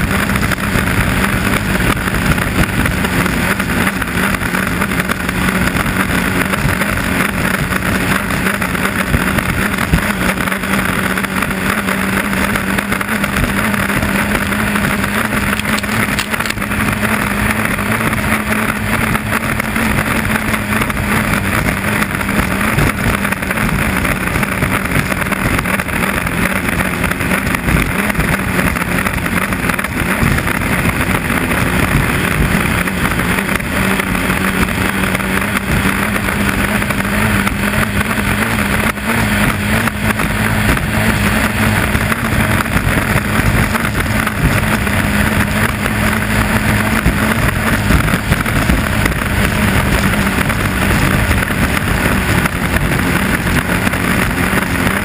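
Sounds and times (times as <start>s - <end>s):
boat engine running: 0.0s - 55.0s
water noise: 0.0s - 55.0s
wind noise: 0.0s - 55.0s.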